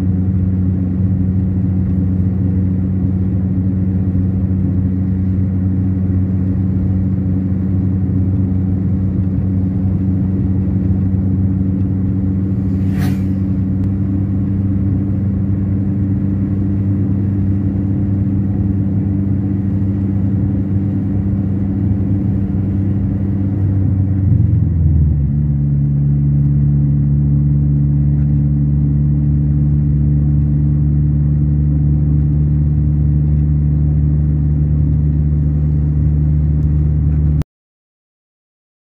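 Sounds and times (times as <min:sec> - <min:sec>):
car engine and road rumble: 0:00.0 - 0:37.4.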